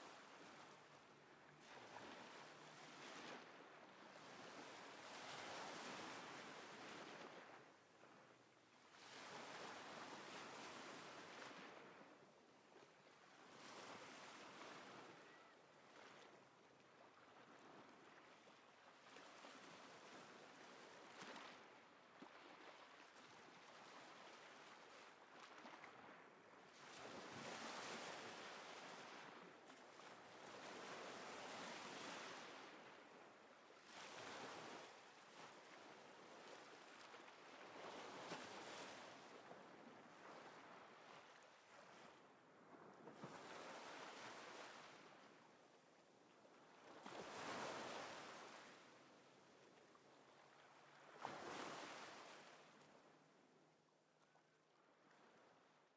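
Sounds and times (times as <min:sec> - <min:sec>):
faint ocean waves: 0:00.0 - 0:55.8.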